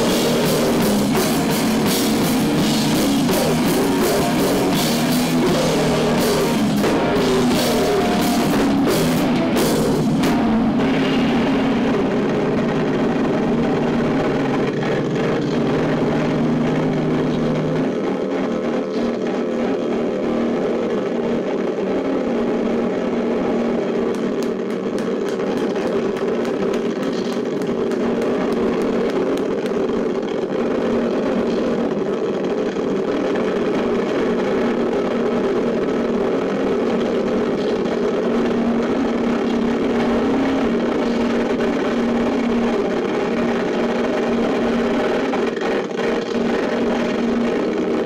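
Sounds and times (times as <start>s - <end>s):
distorted electric guitars and bass: 0.0s - 48.0s.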